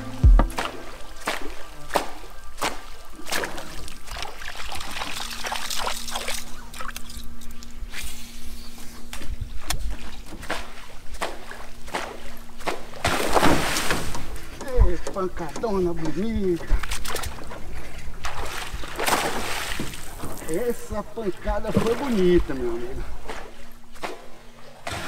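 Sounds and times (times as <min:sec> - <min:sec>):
water splashing and trickling: 0:00.0 - 0:07.7, 0:09.3 - 0:25.0.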